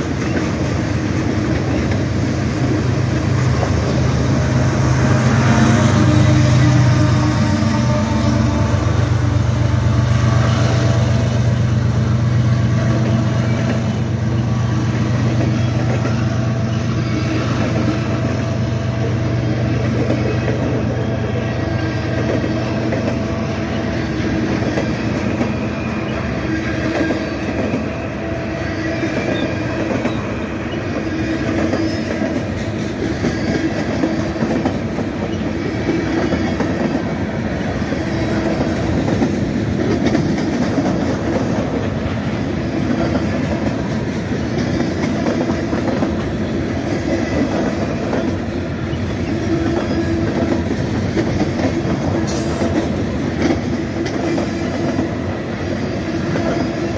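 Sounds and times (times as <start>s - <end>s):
train wheels rumbling and clicking: 0.0s - 56.9s.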